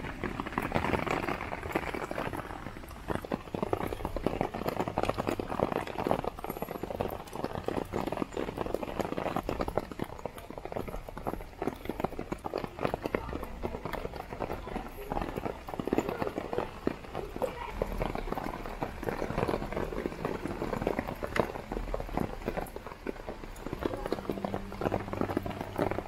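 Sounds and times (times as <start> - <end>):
heavy rain drumming on a tarp: 0.0 - 26.0.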